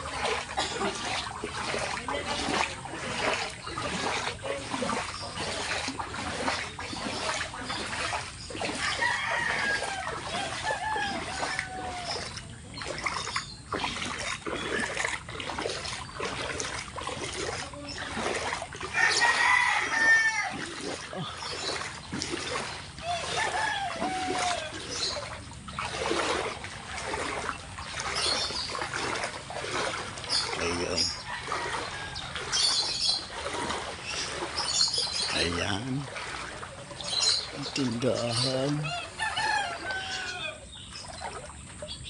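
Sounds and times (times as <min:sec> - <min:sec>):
footsteps splashing through water: 0:00.0 - 0:42.0
bird calls: 0:00.2 - 0:42.0.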